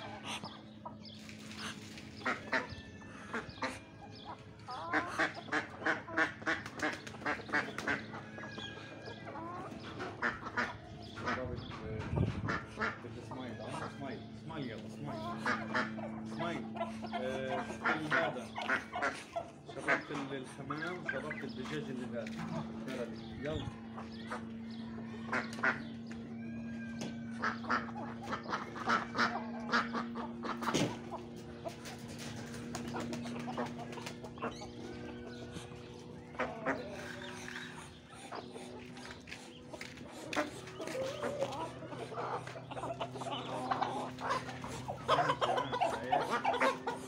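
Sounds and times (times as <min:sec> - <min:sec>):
ducks quacking: 0:00.0 - 0:47.0
steady low hum: 0:00.0 - 0:47.0.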